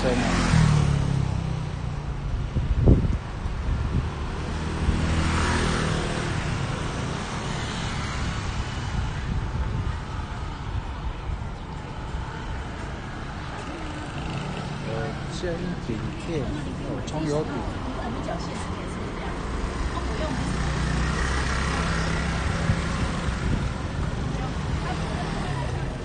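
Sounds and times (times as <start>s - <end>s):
vehicle passing: 0.0s - 1.9s, 2.6s - 26.0s
street traffic rumble: 0.0s - 26.0s.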